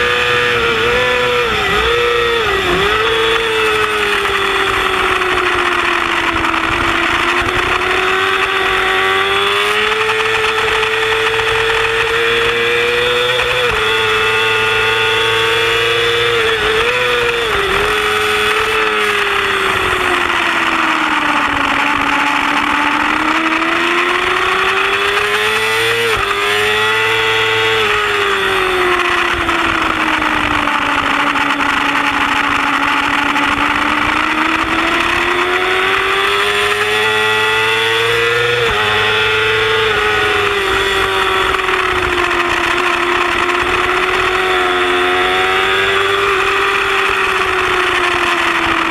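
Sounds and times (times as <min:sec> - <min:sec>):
motorcycle engine revving hard: 0:00.0 - 0:48.9.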